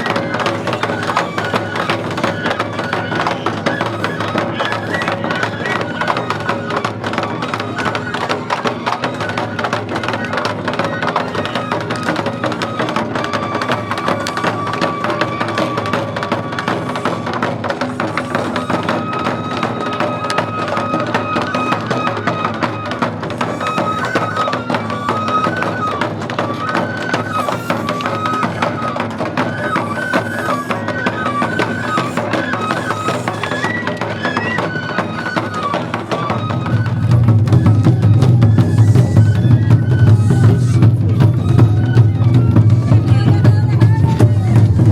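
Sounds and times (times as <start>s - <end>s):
drumming and percussion: 0.0s - 44.9s
flute melody: 0.0s - 44.9s.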